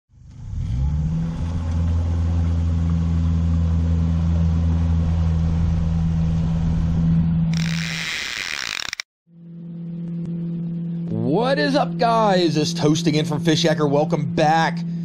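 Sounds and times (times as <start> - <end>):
outboard motor droning: 0.1 - 15.0.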